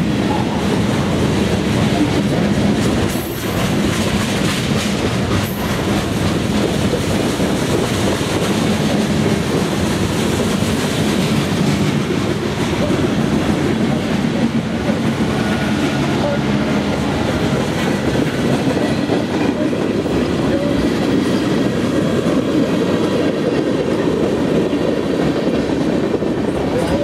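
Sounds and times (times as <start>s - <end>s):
freight train wheels rumbling on rails: 0.0s - 27.0s.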